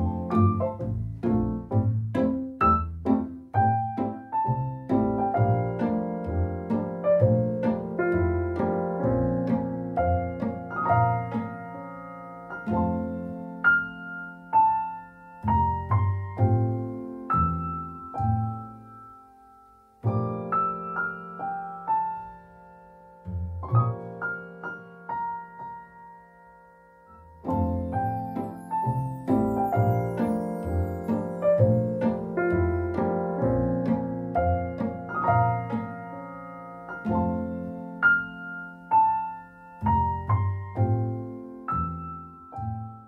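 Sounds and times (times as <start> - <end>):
gentle piano melody: 0.0 - 43.0.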